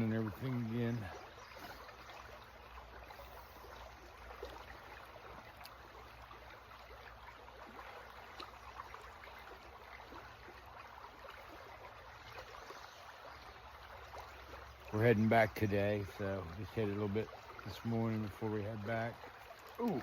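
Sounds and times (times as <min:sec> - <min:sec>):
creek trickling: 0:00.0 - 0:20.0
small water splashes: 0:00.0 - 0:20.0.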